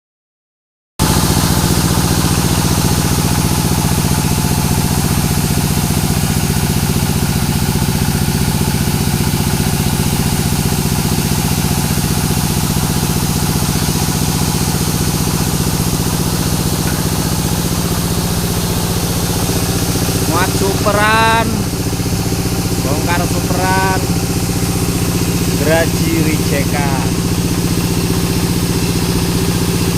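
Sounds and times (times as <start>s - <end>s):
engine idling: 1.0s - 29.9s.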